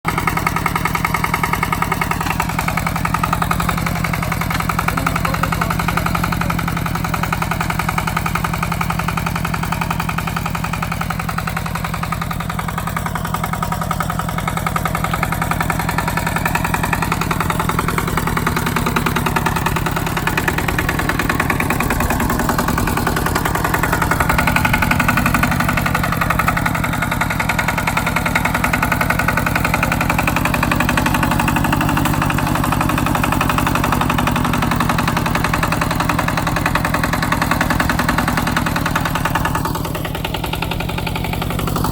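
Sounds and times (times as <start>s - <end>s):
tractor engine chugging: 0.0s - 41.9s.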